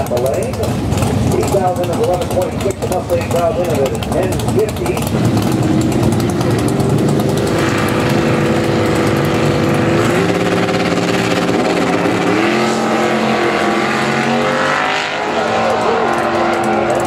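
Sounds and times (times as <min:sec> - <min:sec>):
drag racing engines revving: 0:00.0 - 0:17.0.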